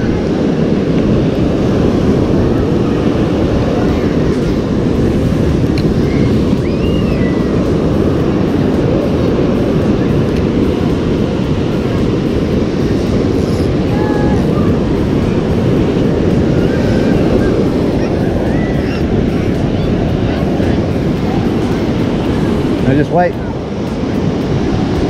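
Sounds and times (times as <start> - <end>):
breaking surf: 0.0 - 25.0
wind buffeting microphone: 0.0 - 25.0.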